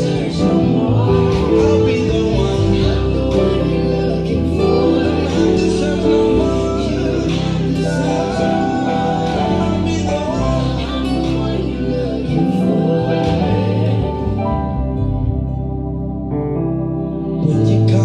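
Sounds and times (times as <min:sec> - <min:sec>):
person singing gospel: 0:00.0 - 0:15.4, 0:17.2 - 0:18.0
sustained keyboard chords: 0:00.0 - 0:18.0.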